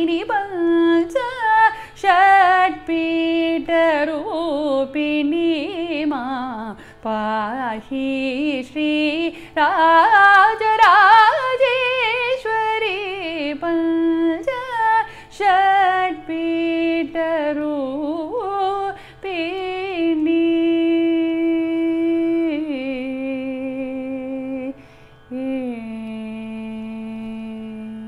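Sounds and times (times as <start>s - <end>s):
woman singing wordless vowel: 0.0s - 24.7s, 25.3s - 28.0s.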